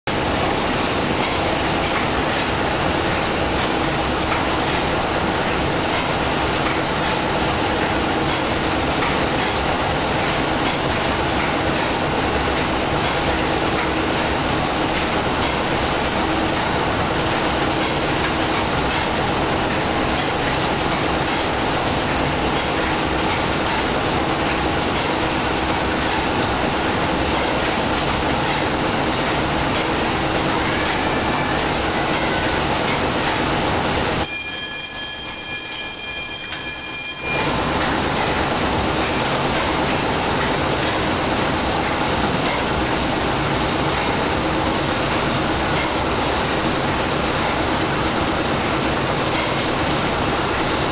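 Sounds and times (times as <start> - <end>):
steam engine machinery clattering: 0.1 - 50.9.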